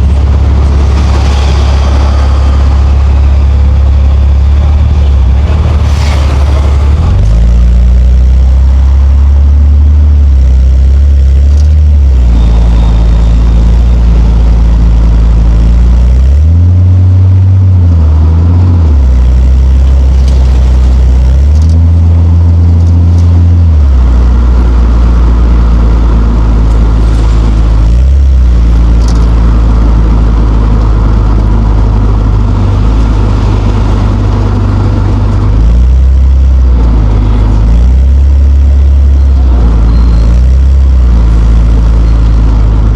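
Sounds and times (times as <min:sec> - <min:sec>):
car engine running loud and low: 0:00.0 - 0:42.9.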